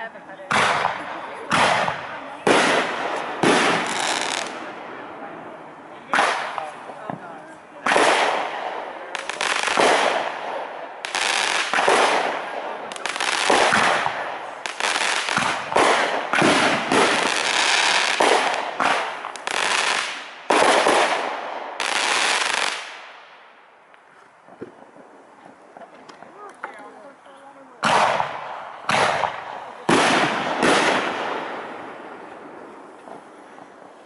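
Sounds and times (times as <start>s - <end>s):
firework shells booming: 0.5s - 5.2s, 6.0s - 23.5s, 27.8s - 34.0s.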